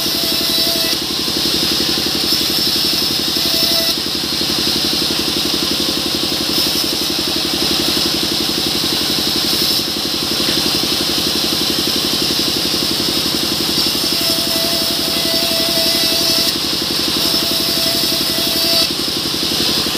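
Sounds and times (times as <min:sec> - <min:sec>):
band saw cutting wood: 0:00.0 - 0:19.9.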